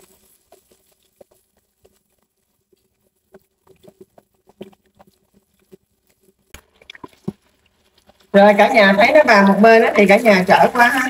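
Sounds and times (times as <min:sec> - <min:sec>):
pork frying in hot oil: 0:00.0 - 0:11.0.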